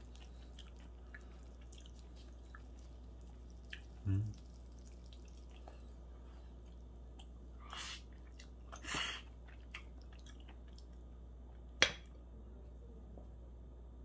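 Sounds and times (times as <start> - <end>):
soft chewing: 0.0 - 11.7.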